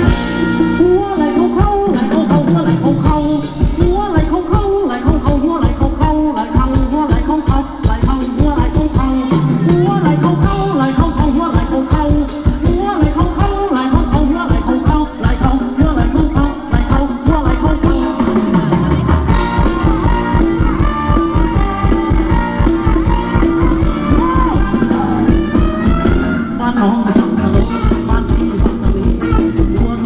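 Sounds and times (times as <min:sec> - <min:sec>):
fast steady drum beat: 0:00.0 - 0:30.0
live band dance music: 0:00.0 - 0:30.0.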